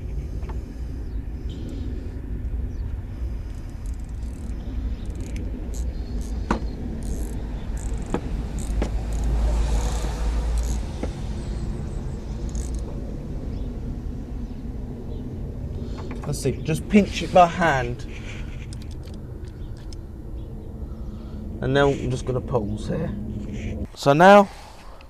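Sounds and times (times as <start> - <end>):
low rumble: 0.0 - 23.9.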